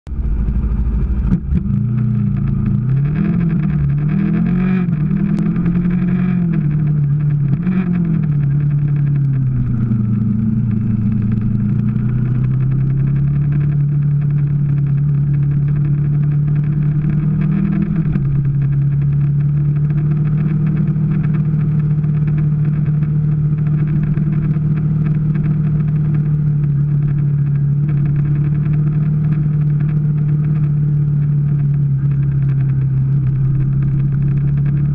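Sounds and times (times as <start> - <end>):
motorcycle engine under way: 0.1 - 34.9.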